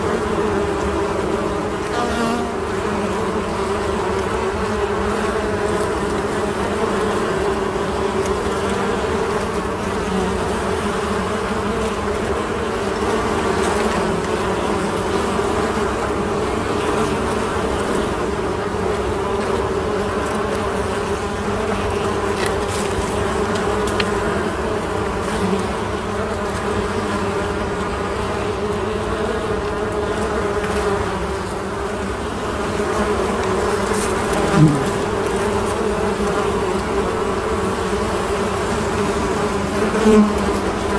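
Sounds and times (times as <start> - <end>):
honeybees buzzing: 0.0 - 40.9
single bee buzzing past: 0.0 - 40.9.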